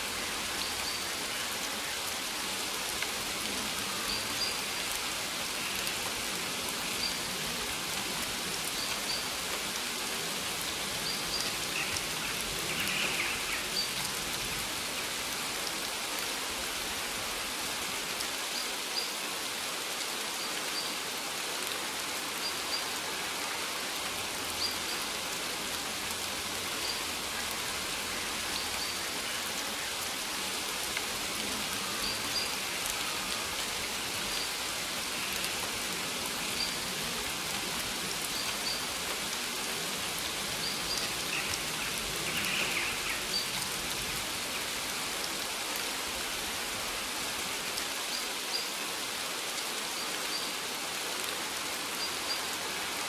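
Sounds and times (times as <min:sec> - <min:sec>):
rain on leaves: 0:00.0 - 0:53.0.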